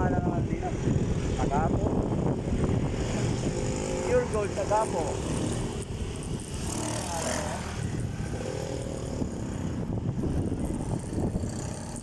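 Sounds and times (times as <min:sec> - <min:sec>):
wind rumble on microphone: 0:00.0 - 0:12.0
motorcycle engine running: 0:01.5 - 0:12.0.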